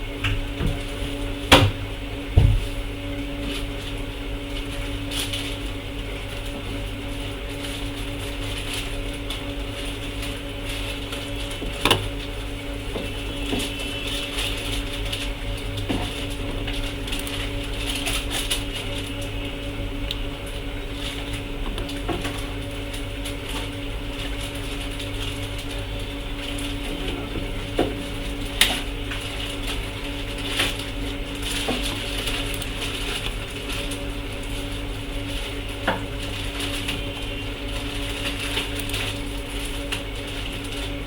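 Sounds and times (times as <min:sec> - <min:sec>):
machine hum with hiss: 0:00.0 - 0:41.0.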